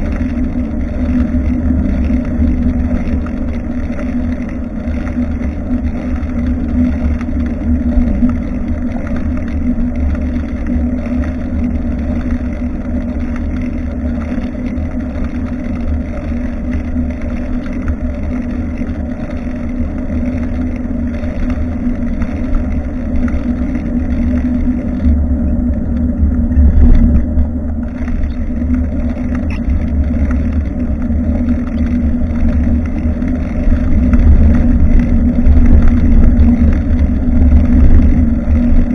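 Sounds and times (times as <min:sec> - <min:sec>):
constant hum: 0:00.0 - 0:38.9
road rumble: 0:00.0 - 0:38.9
wind buffeting microphone: 0:00.0 - 0:38.9.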